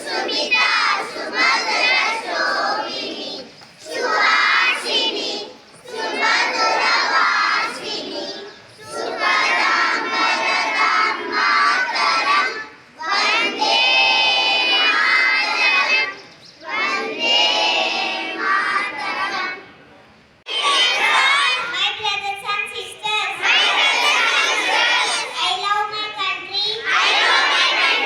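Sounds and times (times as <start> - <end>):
children singing in unison: 0.0 - 19.6, 20.5 - 21.5, 23.4 - 25.4, 26.8 - 28.0.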